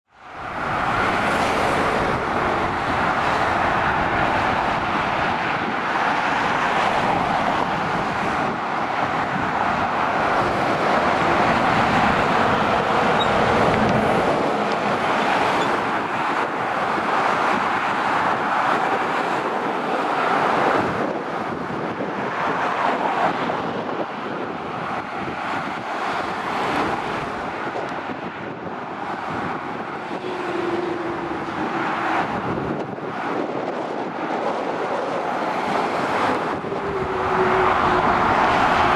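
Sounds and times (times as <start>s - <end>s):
motorway traffic passing: 0.1s - 38.9s.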